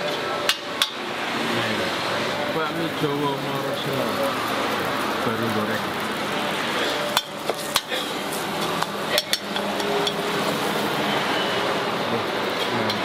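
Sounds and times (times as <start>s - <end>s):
frying hiss: 0.0s - 13.0s.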